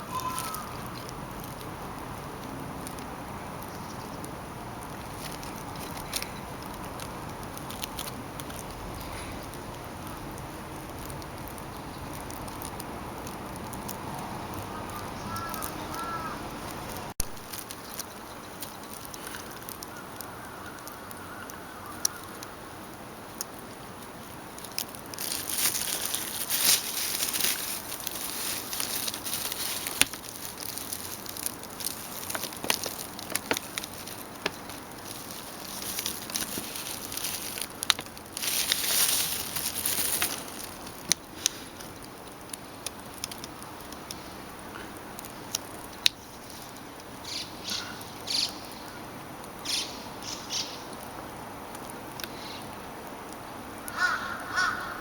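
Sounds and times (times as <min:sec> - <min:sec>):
nestlings rustling and flapping wings: 0:00.0 - 0:21.0, 0:23.4 - 0:47.4.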